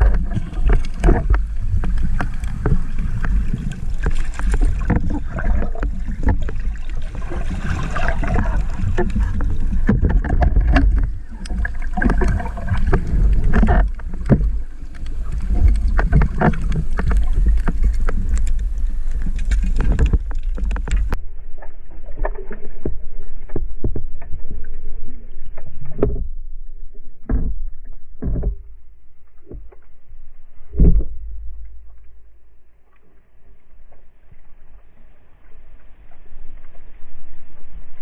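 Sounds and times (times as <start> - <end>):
underwater knocks and clicks: 0.0 - 33.1
muffled underwater rumble: 0.0 - 38.0.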